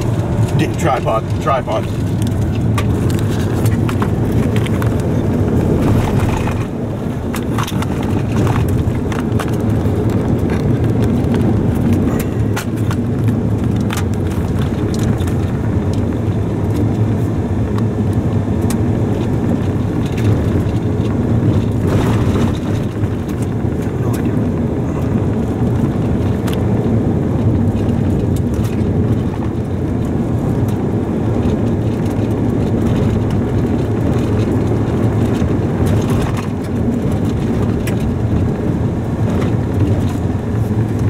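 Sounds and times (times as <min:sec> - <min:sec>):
car road and engine noise: 0:00.0 - 0:41.0.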